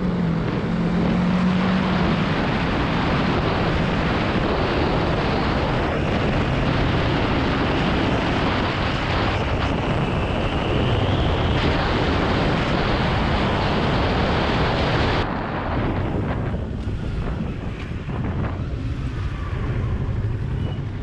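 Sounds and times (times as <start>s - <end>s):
motorcycle engine: 0.0s - 21.0s
wind rush on microphone: 0.0s - 21.0s.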